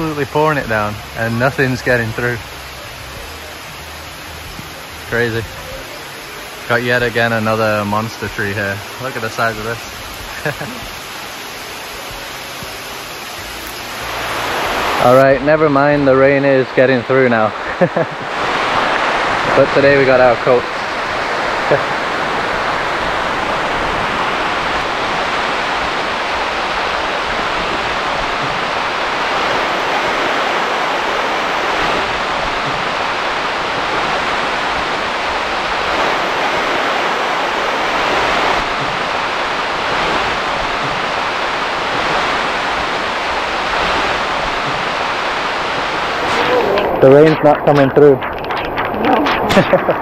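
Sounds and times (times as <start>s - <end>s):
heavy rain on leaves: 0.0s - 50.0s.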